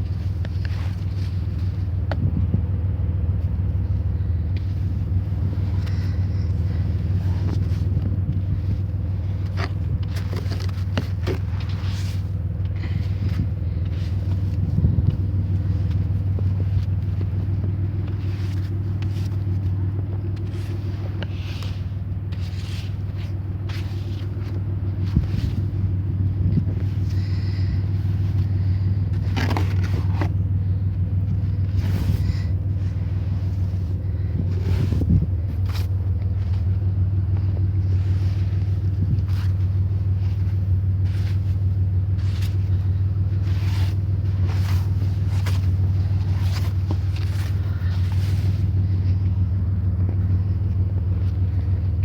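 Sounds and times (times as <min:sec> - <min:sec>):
scraping and brushing: 0:00.0 - 0:02.1, 0:03.4 - 0:52.0
car engine idling: 0:00.0 - 0:52.0.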